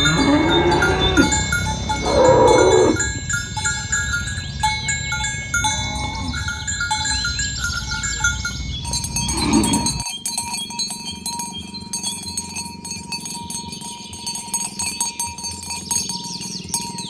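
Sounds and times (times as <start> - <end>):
cattle bells jingling and clanking: 0.0 - 17.0.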